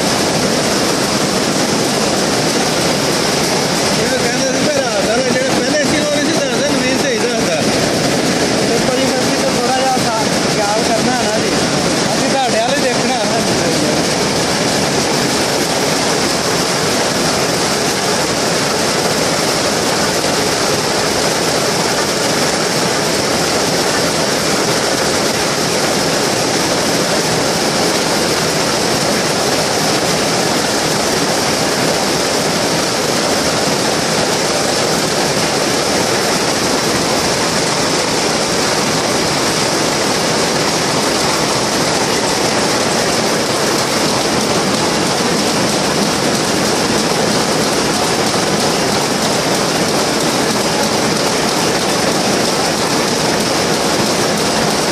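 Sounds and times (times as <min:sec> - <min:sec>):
weaving looms clattering: 0:00.0 - 0:54.9.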